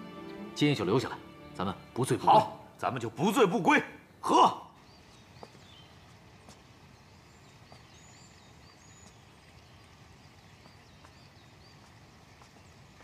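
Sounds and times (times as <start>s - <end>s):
faint birdsong chirps: 0.0s - 13.0s
low steady hiss: 0.0s - 13.0s.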